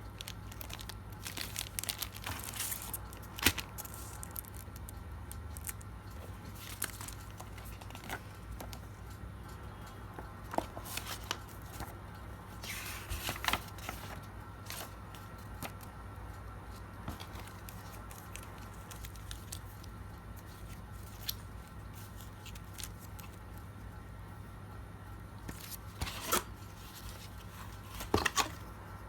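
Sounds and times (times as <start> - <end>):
packaging clicks and rustles: 0.0 - 9.2, 10.2 - 12.0, 12.6 - 16.0, 16.7 - 23.7, 25.5 - 28.7
steady low hum: 0.0 - 29.0.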